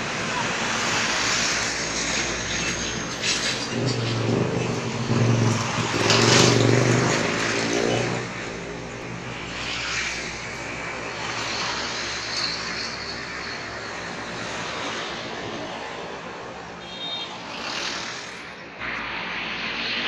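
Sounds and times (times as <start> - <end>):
heavy traffic passing: 0.0 - 20.0.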